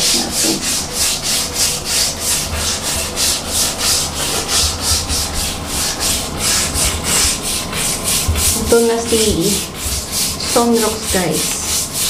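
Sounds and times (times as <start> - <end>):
scrub brush scrubbing tiles: 0.0 - 12.0.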